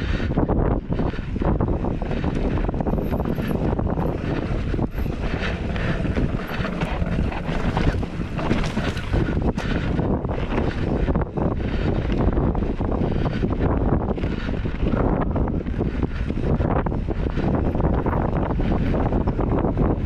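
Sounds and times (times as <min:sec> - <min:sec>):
wind buffeting microphone: 0:00.0 - 0:20.0
bike clattering over bumps: 0:00.9 - 0:20.0
tyres rumbling on dirt: 0:01.3 - 0:20.0.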